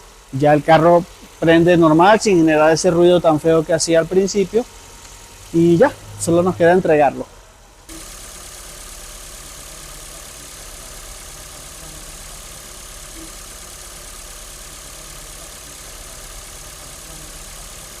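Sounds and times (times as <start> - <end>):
car engine idling: 0.1 - 18.0.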